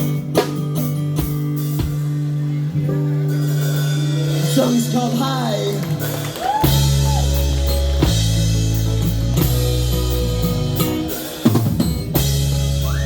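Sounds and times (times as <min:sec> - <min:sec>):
bass guitar: 0:00.0 - 0:13.0
drum kit: 0:00.0 - 0:13.0
live band playing: 0:00.0 - 0:13.0.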